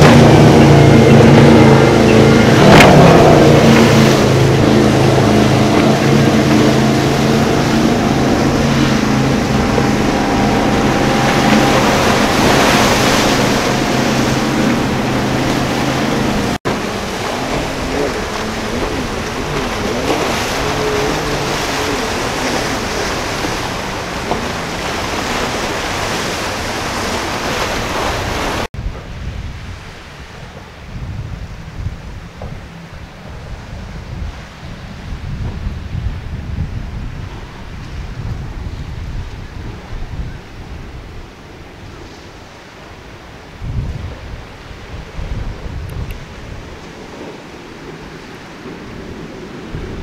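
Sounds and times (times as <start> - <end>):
breaking surf: 0.0 - 50.0
speedboat engines running hard: 0.0 - 50.0
wind on microphone: 0.0 - 50.0.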